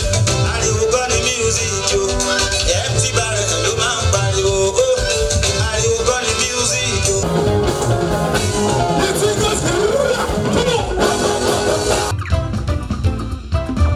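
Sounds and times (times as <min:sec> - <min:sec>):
music with singing and bass beat: 0:00.0 - 0:13.9.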